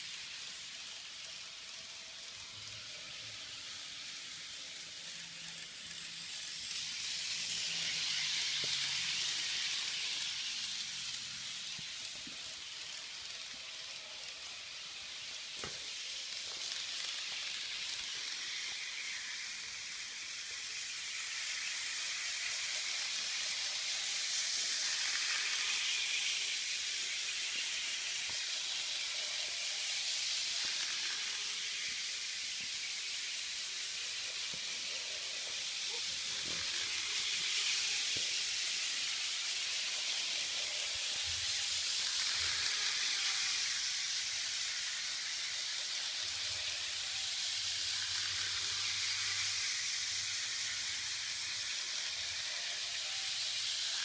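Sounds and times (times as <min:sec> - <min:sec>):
model train wheels and motor hiss: 0:00.0 - 0:54.0.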